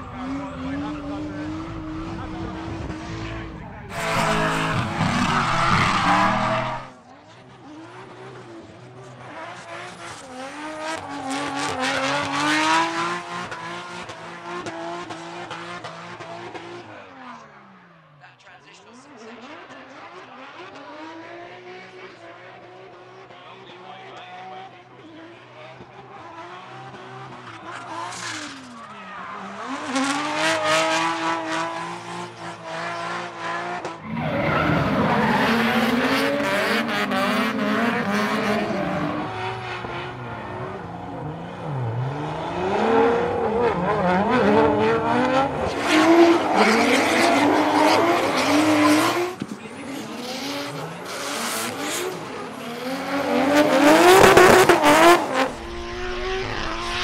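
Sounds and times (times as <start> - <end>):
car engines revving: 0.0 - 18.3, 19.0 - 57.0.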